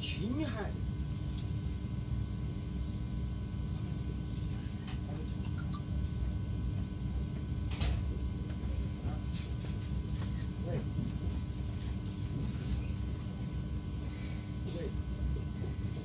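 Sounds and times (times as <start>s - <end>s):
faint constant hum: 0.0s - 16.0s.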